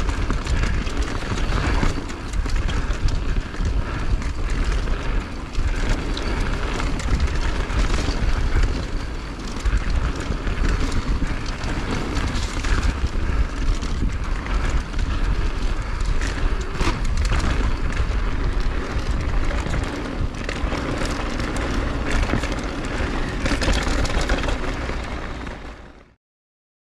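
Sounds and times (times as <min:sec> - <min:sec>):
wind buffeting microphone: 0:00.0 - 0:25.7.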